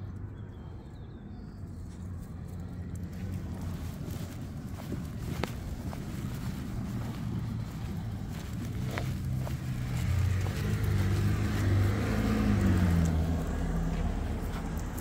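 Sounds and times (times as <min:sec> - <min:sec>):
car driving past: 0:01.9 - 0:15.0.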